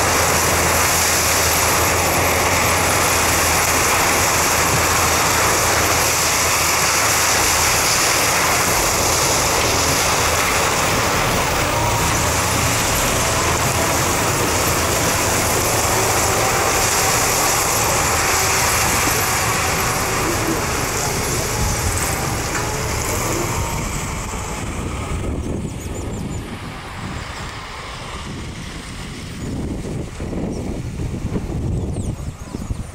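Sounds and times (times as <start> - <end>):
harvester engine noise: 0.0 - 32.9.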